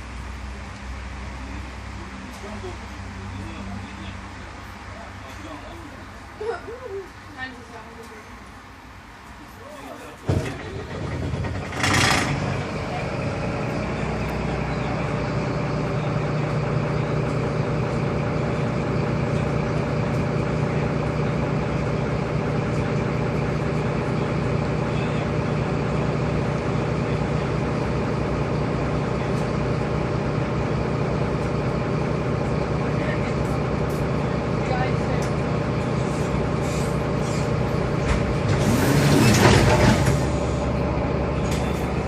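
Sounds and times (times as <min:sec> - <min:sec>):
bus engine hum: 0:00.0 - 0:42.0.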